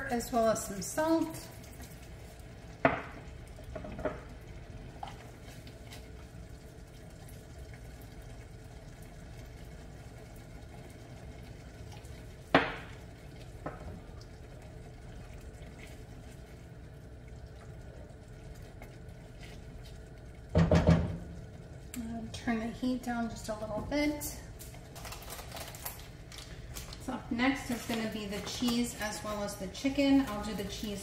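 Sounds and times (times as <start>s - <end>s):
sauce simmering in a pan: 0.0s - 31.0s.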